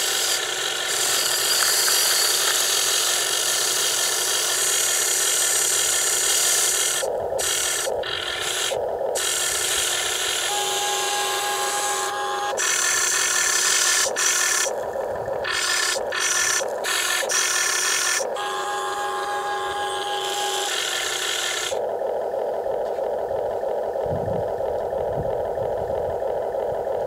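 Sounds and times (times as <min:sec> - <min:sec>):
toy excavator motors whirring: 0:00.0 - 0:25.8
steady whining tone: 0:00.0 - 0:27.0.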